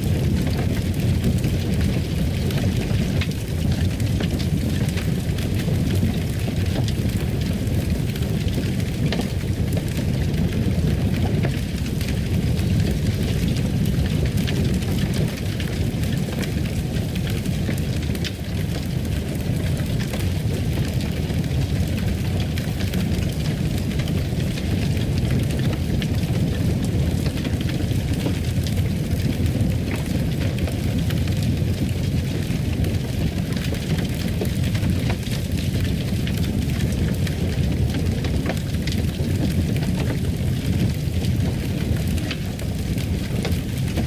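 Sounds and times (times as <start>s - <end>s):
fireplace fire crackling: 0.0s - 44.0s.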